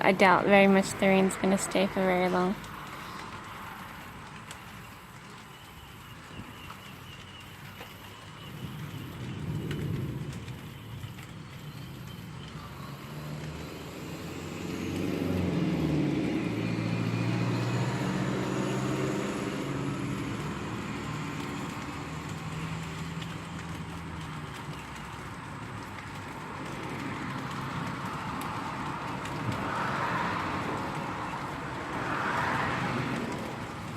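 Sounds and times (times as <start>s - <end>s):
vehicle engine hum: 0.0s - 33.9s.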